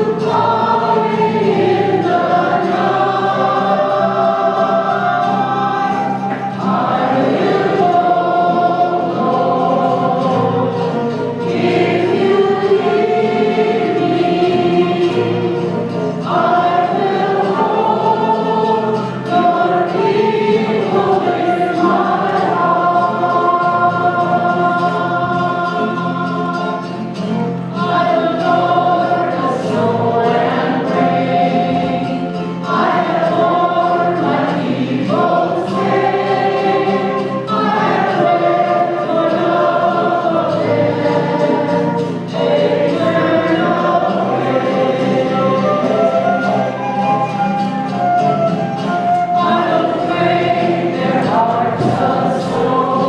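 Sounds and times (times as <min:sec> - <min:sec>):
church choir singing a hymn: 0:00.0 - 0:53.0.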